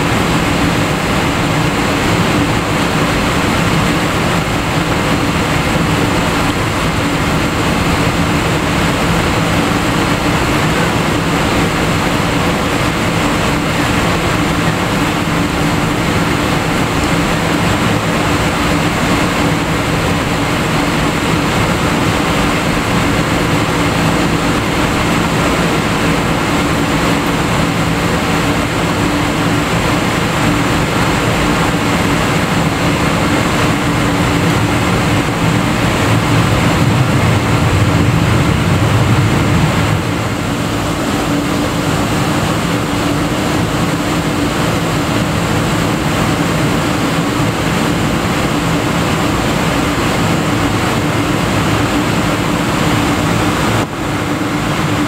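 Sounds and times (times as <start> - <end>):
jet engines humming in cabin: 0.0 - 55.0.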